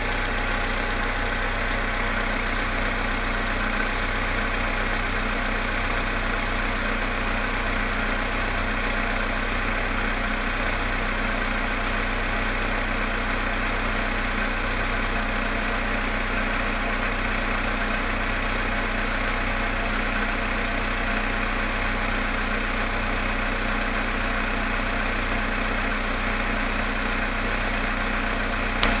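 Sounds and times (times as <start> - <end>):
cold car engine idling: 0.0 - 29.0
engine knocking: 0.0 - 29.0.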